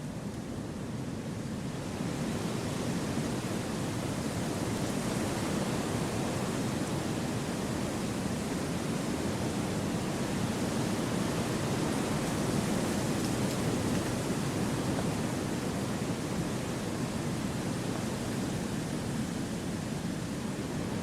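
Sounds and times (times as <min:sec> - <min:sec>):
wind through trees: 0:00.0 - 0:21.0.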